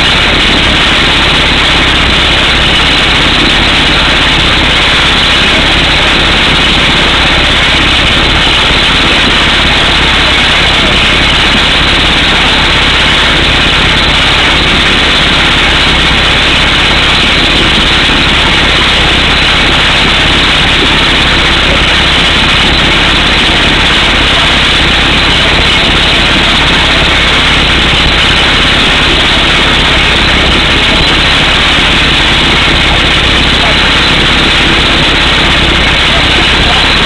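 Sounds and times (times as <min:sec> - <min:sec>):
air hammer drilling rock: 0:00.0 - 0:37.0
rig engine running: 0:00.0 - 0:37.0.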